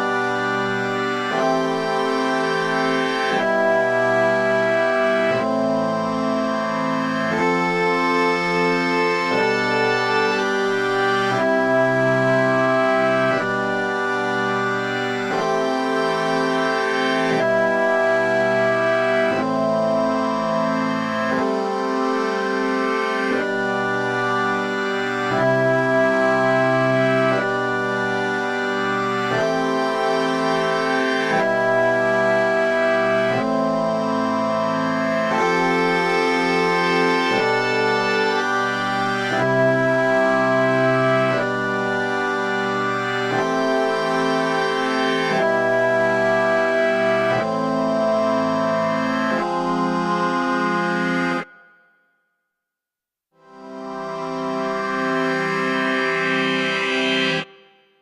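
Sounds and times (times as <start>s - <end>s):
synthesizer organ-like chords: 0.0s - 51.8s, 53.4s - 57.8s.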